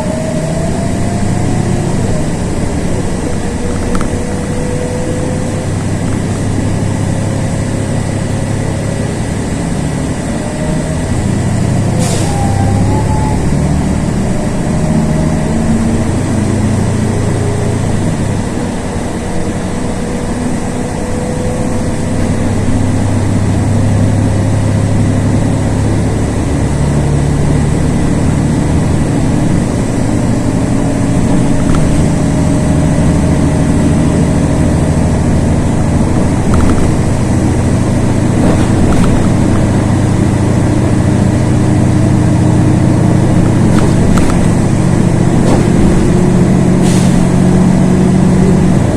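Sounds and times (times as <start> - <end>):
bus engine and road drone: 0.0 - 48.9.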